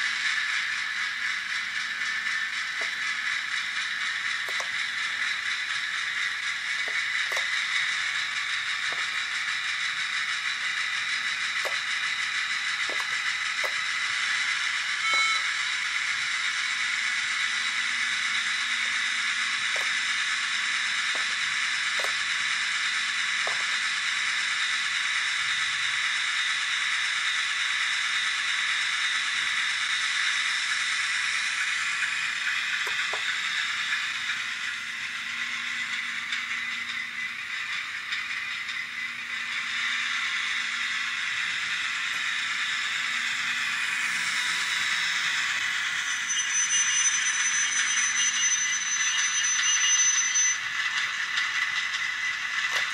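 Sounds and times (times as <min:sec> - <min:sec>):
model train diesel engine sound: 0:00.0 - 0:52.9.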